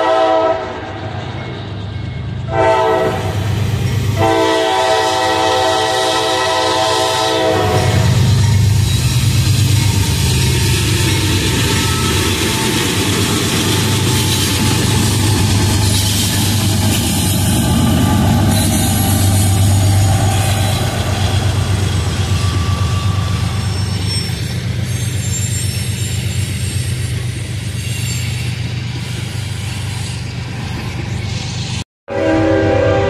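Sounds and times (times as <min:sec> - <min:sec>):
train wheels on rails: 0:00.0 - 0:31.8
diesel locomotive engine drone: 0:00.0 - 0:33.0.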